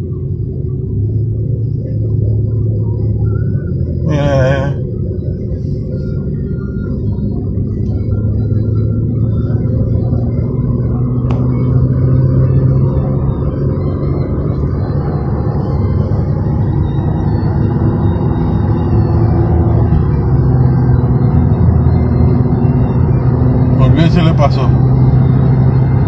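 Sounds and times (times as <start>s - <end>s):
car engine and tyre drone: 0.0s - 26.0s.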